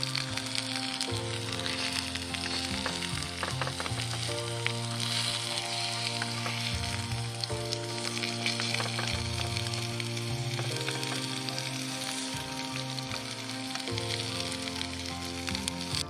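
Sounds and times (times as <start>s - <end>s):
background music: 0.0s - 16.0s
food sizzling on a grill: 0.0s - 16.0s.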